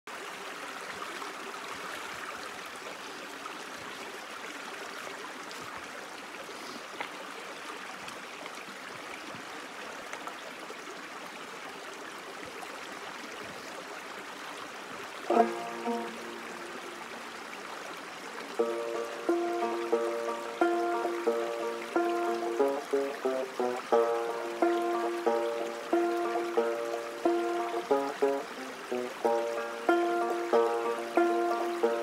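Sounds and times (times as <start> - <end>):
creek babbling over rocks: 0.1 - 32.0.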